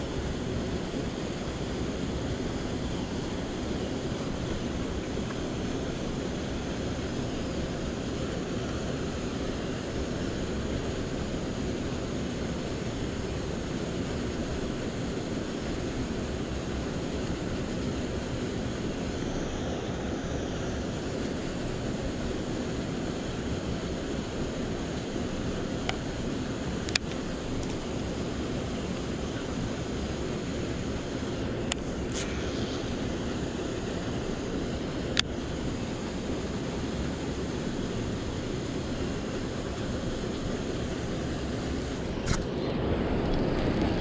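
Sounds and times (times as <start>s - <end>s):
rushing outdoor background noise: 0.0s - 44.0s.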